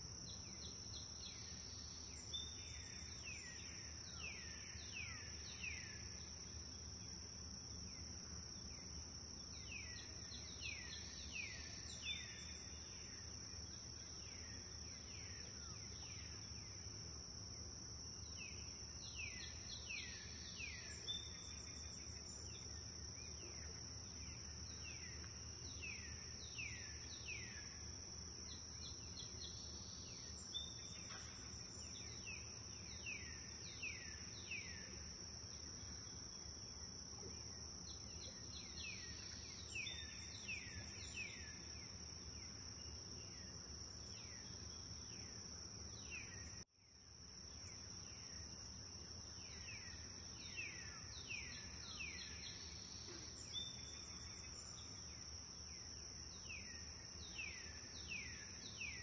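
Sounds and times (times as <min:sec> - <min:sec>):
high insect chorus: 0:00.0 - 0:59.0.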